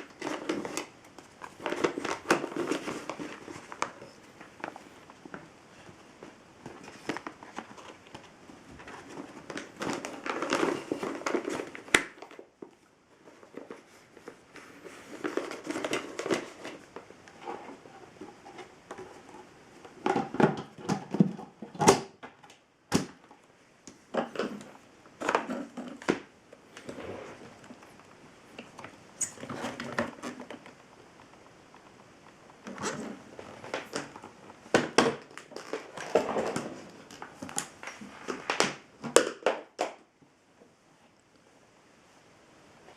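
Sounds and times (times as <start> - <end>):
crinkling and rustling: 0.0 - 41.2.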